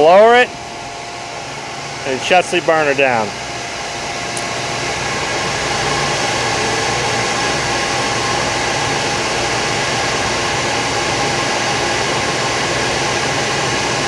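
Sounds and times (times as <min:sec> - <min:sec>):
heater whirring hiss: 0:00.0 - 0:14.0.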